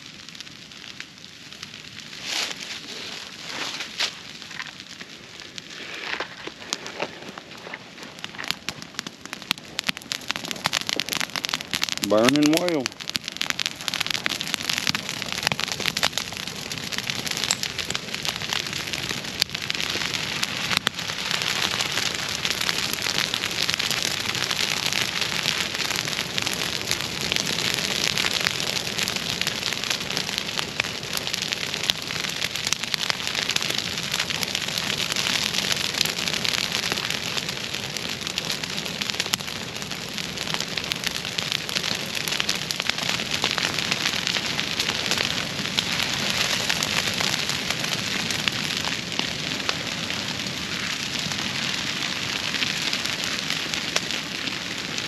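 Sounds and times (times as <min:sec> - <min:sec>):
dry grass crackling and popping: 0:00.0 - 0:55.0.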